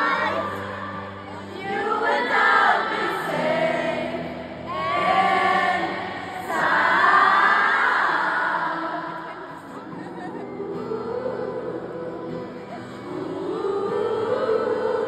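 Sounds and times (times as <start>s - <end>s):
acoustic guitar: 0.0s - 15.0s
crowd singing along: 0.0s - 15.0s
woman singing: 0.0s - 15.0s.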